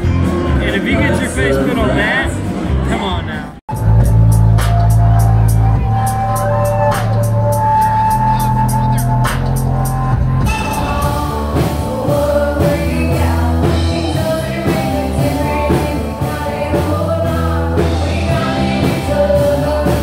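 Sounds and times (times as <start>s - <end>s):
drums: 0.0s - 20.0s.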